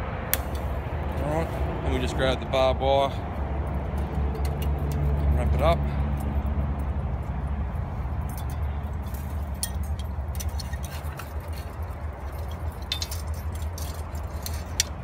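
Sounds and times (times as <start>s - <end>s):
steady low rumble: 0.0s - 15.0s
barbed wire clinks and scrapes: 0.3s - 1.7s, 3.7s - 15.0s.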